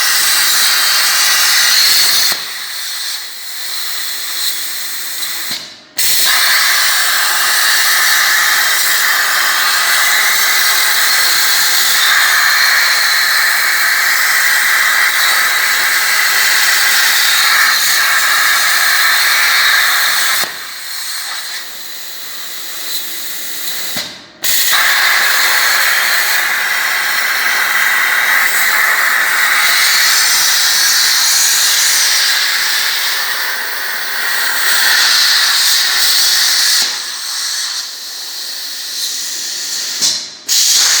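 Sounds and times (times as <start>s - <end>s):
plasma torch hissing: 0.0s - 41.0s.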